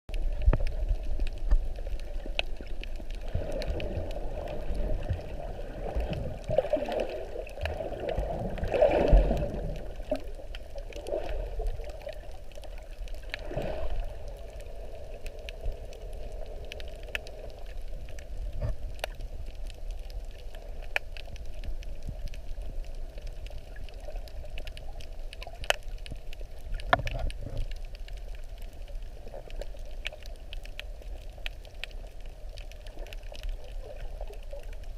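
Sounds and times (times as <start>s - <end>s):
sea water gurgling and sloshing: 0.1s - 34.9s.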